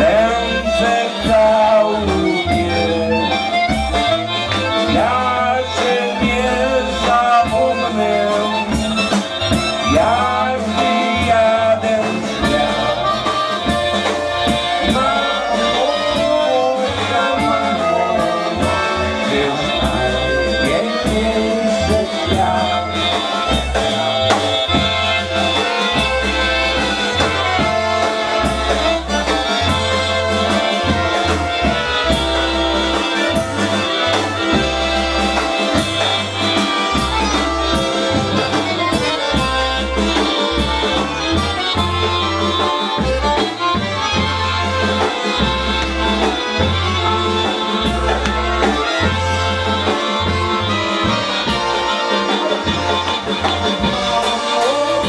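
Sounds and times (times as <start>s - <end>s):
accordion: 0.0s - 55.0s
bass line: 0.0s - 55.0s
drums: 0.0s - 55.0s.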